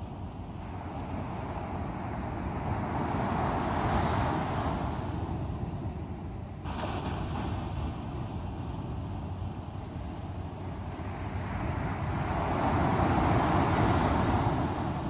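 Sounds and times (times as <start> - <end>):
ocean waves breaking: 0.4 - 15.0.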